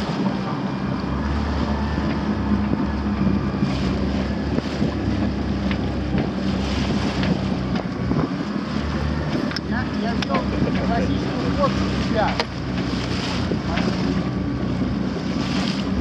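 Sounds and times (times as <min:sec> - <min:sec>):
boat engine humming: 0:00.0 - 0:16.0
wind buffeting microphone: 0:00.0 - 0:16.0.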